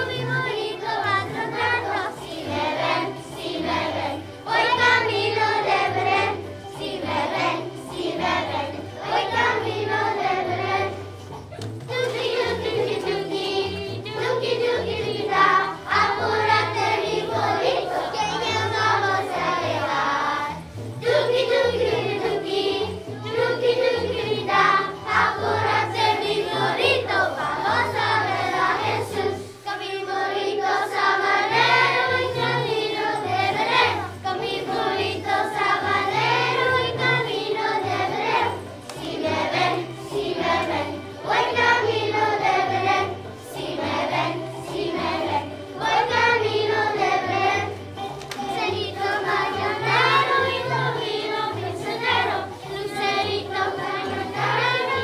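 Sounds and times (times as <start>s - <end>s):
children's choir singing: 0.0s - 55.0s
instrumental accompaniment with bass: 0.0s - 55.0s.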